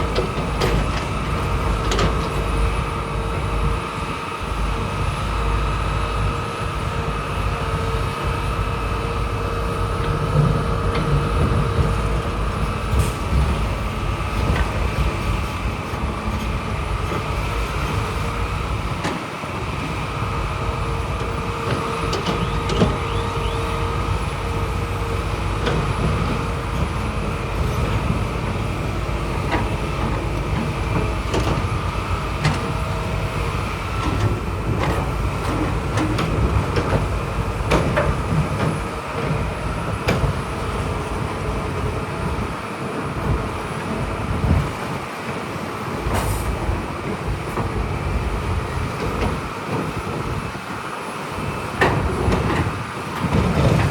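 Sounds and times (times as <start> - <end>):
machinery clanks and knocks: 0.0 - 3.8, 9.7 - 50.7, 51.4 - 53.9
diesel engine running: 0.0 - 53.9.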